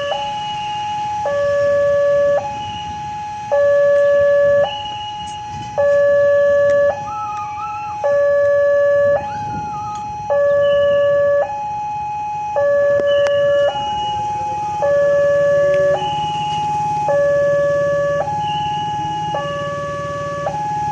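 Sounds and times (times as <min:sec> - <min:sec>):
two-tone level crossing alarm: 0:00.0 - 0:20.9.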